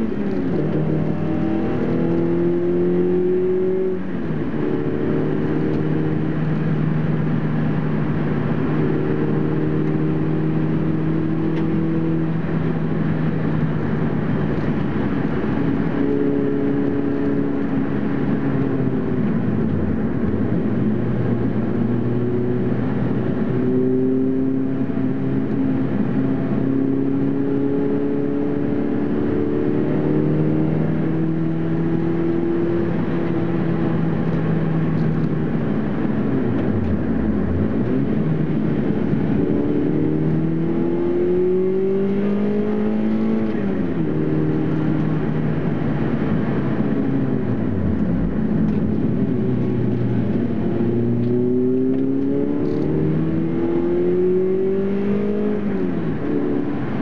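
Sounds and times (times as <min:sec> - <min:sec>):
car engine revving in cabin: 0:00.0 - 0:57.0
road and wind noise: 0:00.0 - 0:57.0.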